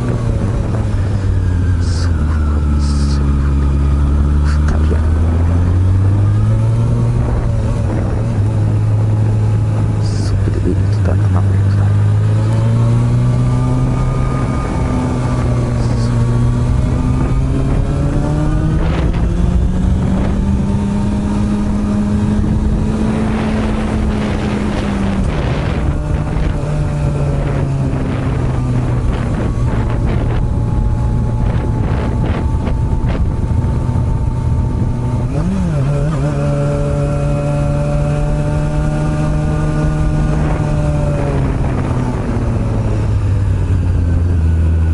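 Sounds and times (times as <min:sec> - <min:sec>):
motorcycle engine under way: 0:00.0 - 0:44.9.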